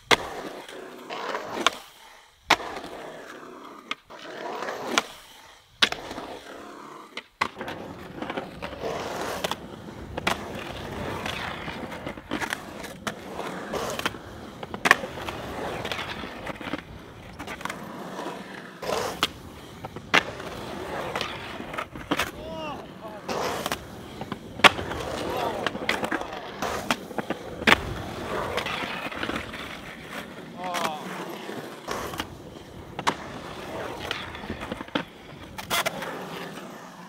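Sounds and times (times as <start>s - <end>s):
skateboard clacks: 0.0s - 37.0s
skateboard wheels rolling on concrete: 0.0s - 37.0s.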